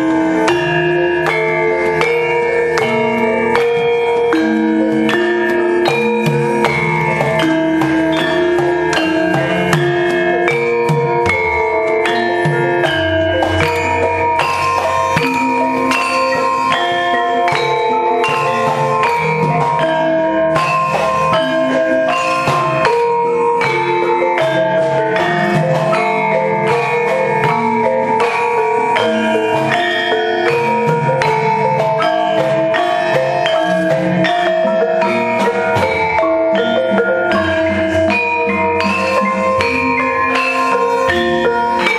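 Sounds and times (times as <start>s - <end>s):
bronze metallophones ringing: 0.0s - 41.9s.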